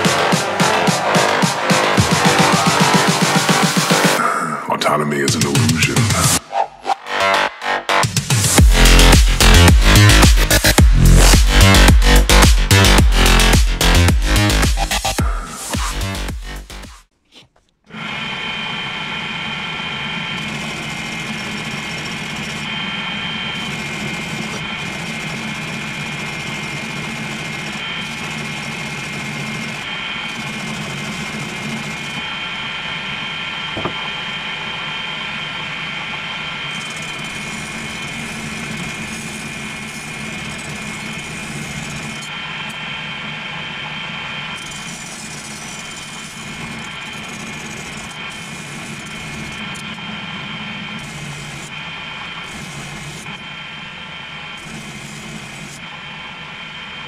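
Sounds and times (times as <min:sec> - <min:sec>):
bench grinder running: 0:00.0 - 0:04.2, 0:08.0 - 0:16.8, 0:17.9 - 0:57.0.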